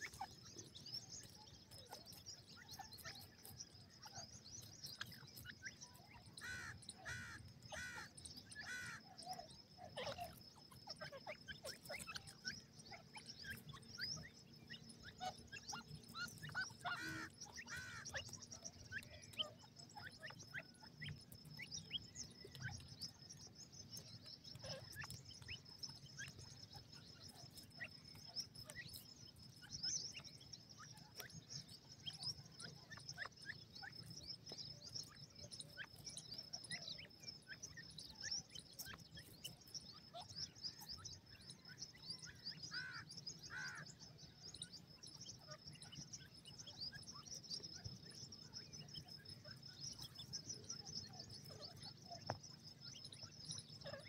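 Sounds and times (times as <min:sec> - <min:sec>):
bird chirps and calls: 0:00.0 - 0:54.0.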